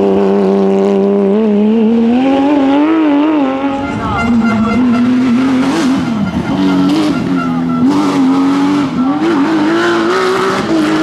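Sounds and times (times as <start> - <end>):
car engine revving hard: 0.0 - 11.0
tyres skidding: 0.0 - 11.0.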